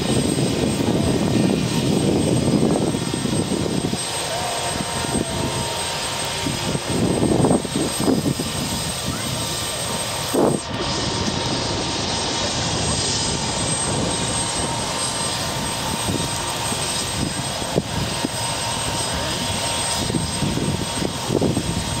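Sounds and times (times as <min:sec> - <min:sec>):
thin high whine: 0:00.0 - 0:20.6
helicopter engine and rotor: 0:00.0 - 0:22.0.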